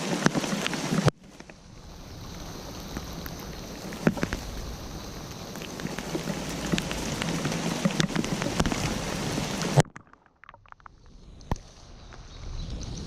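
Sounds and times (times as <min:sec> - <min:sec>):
rain falling: 0:00.0 - 0:13.0
scattered drips: 0:00.0 - 0:13.0.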